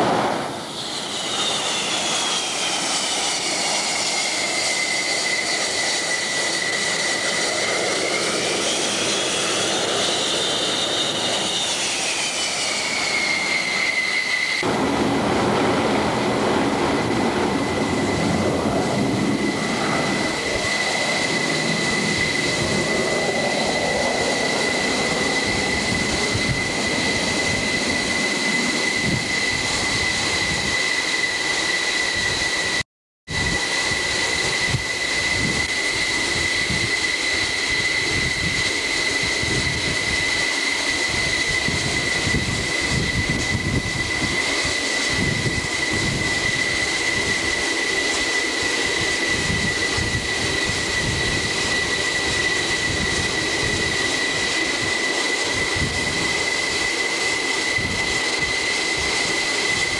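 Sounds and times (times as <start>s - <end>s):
jet engine rushing roar: 0.0s - 59.9s
jet engine turbine whine: 0.0s - 59.9s.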